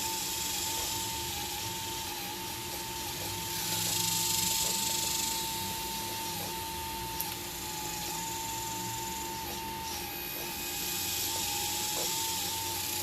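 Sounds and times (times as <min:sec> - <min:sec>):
hydraulic hiss: 0:00.0 - 0:13.0
hydraulic pump whining: 0:00.0 - 0:13.0.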